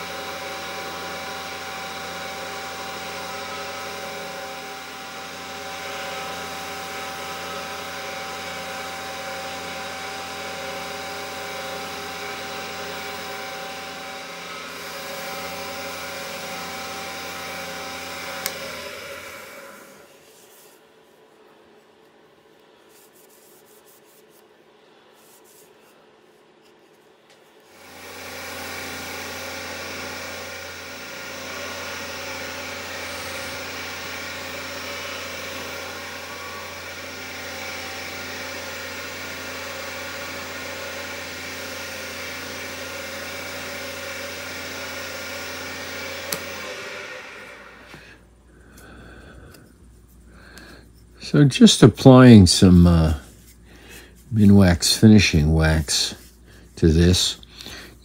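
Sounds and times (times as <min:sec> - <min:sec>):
wood lathe humming and whining: 0:00.0 - 0:20.7, 0:27.7 - 0:57.9.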